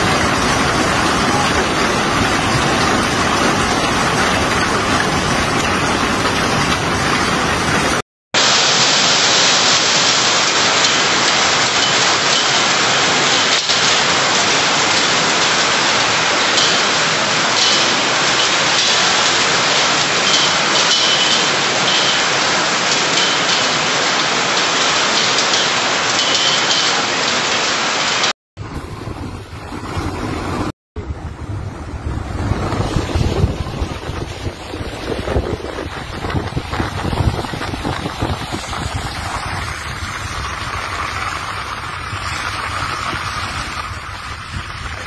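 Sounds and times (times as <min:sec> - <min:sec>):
hail and heavy rain pelting: 0:00.0 - 0:28.3, 0:32.6 - 0:45.0.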